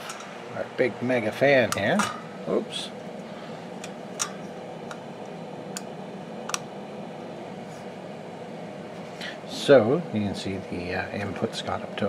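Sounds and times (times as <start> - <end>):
cooling fan running: 0.0 - 12.0.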